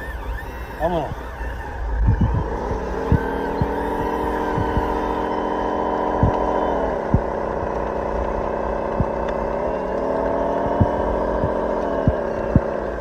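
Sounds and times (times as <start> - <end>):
sharp clicks: 0.0 - 13.0
toy bulldozer motor droning: 0.0 - 13.0.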